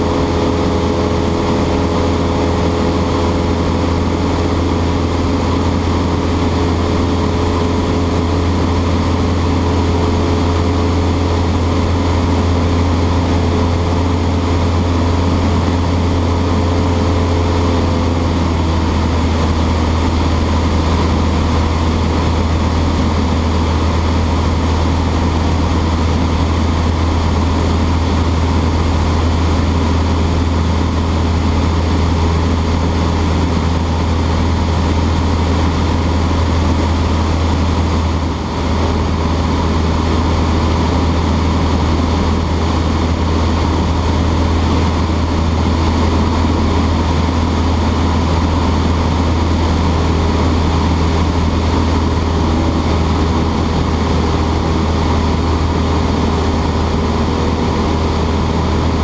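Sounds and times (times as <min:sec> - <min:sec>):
airplane engine and propeller drone: 0:00.0 - 0:59.0.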